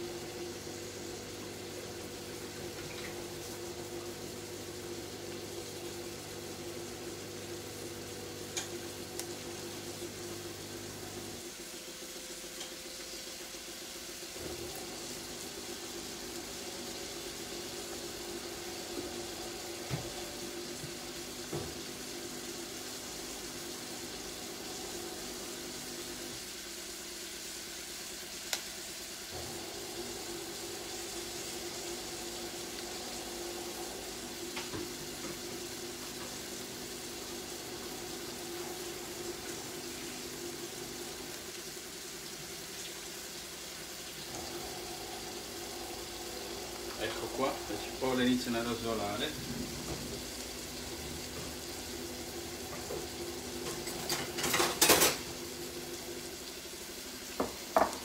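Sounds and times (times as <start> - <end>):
onions sizzling in a pan: 0.0 - 58.0.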